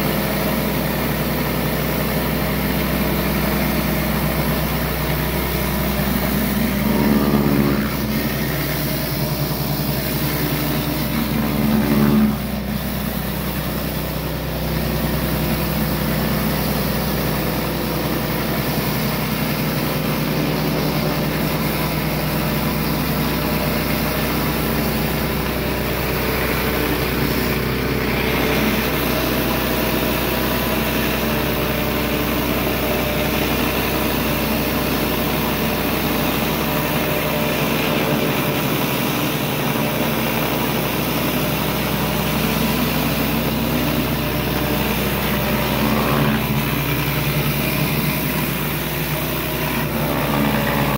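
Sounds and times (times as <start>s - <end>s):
pressure washer running: 0.0s - 50.9s.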